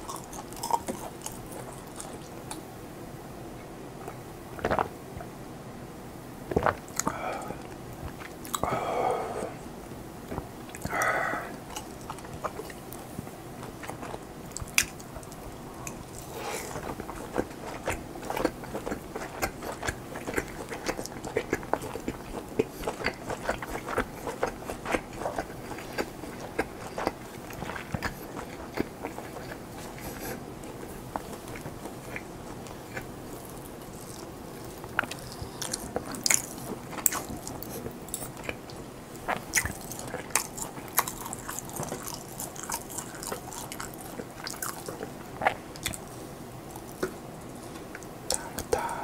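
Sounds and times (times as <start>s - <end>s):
chewing and biting food: 0.0s - 2.6s, 6.5s - 8.8s, 10.3s - 49.0s.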